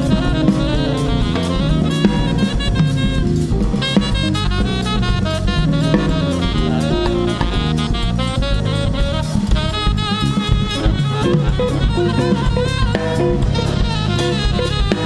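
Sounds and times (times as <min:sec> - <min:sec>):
congas: 0:00.0 - 0:15.0
drum kit: 0:00.0 - 0:15.0
electric bass: 0:00.0 - 0:15.0
tenor saxophone melody: 0:00.0 - 0:15.0.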